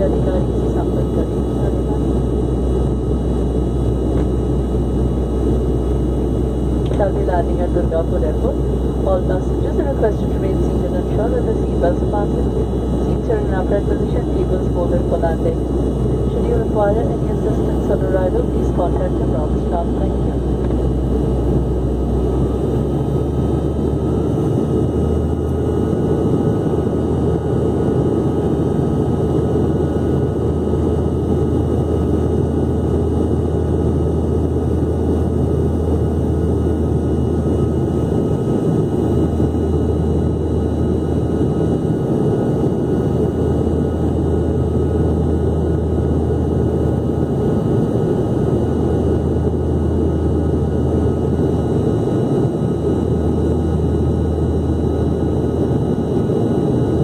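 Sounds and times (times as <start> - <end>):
airliner cabin engine rumble: 0.0 - 57.0
faint steady hum: 0.0 - 57.0.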